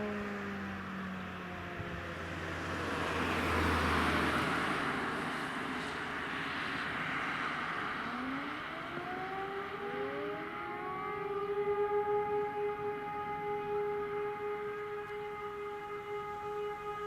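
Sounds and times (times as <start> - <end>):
civil defence siren wailing: 0.0 - 17.0
road vehicle passing: 0.0 - 17.0.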